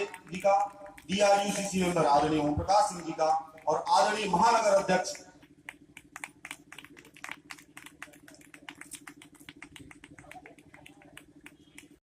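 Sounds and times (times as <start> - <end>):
audience hand-clapping: 0.0 - 12.0
low electrical hum: 0.0 - 12.0.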